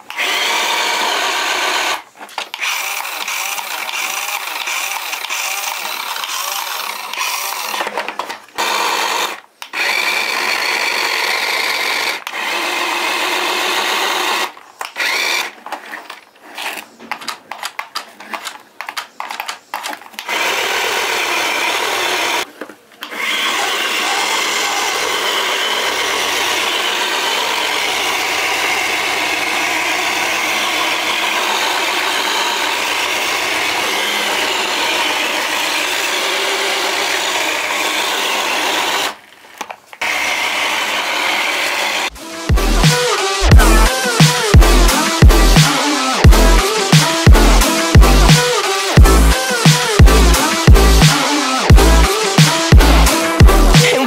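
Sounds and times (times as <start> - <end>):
toy car electric motor whirring: 0.0 - 54.0.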